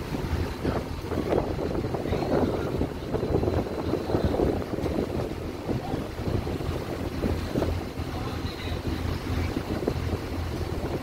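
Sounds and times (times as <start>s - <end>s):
ferry engines droning: 0.0s - 11.0s
wind buffeting microphone: 0.0s - 11.0s.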